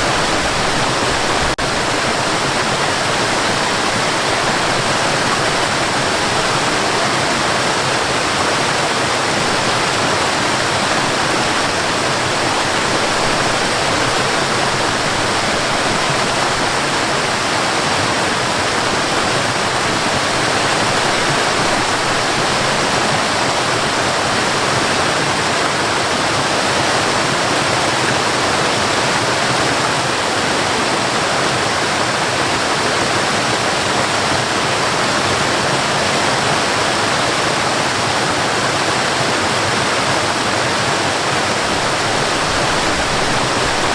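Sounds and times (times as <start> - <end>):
rush of falling water: 0.0 - 43.9.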